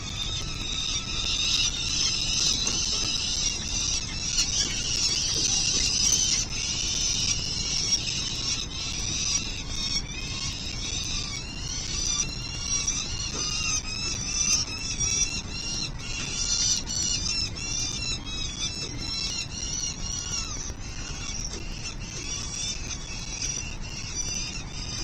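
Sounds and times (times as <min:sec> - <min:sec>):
falcons calling: 0:00.0 - 0:25.0.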